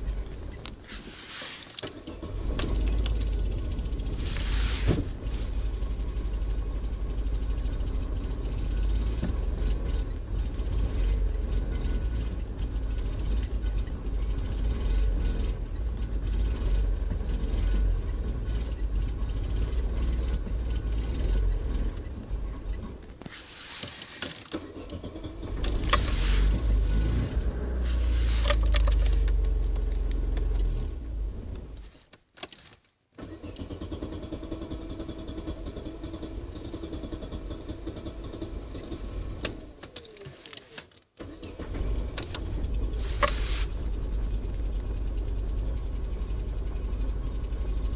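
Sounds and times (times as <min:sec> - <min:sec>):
car engine cold start: 0:00.1 - 0:31.4, 0:33.2 - 0:47.9.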